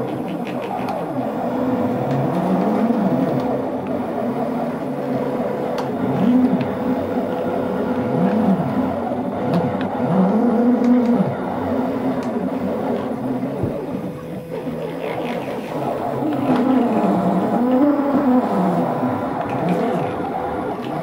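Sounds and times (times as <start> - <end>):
steady hum: 0.0 - 21.0
stepper motors whirring: 0.0 - 21.0.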